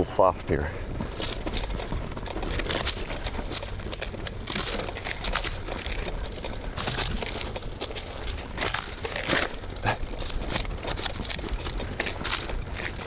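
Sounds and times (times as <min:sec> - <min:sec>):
bicycle tyres crunching dry grass: 0:00.0 - 0:13.0.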